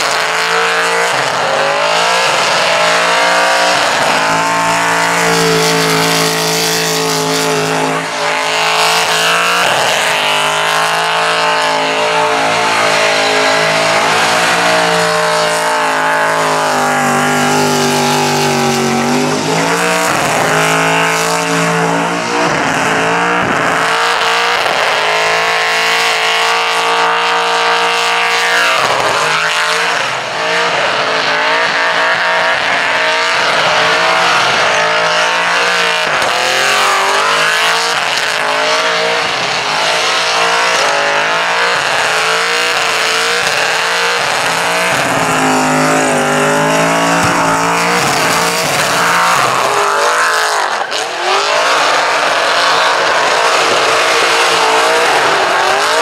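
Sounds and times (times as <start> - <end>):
engine at high revs: 0.0 - 56.0.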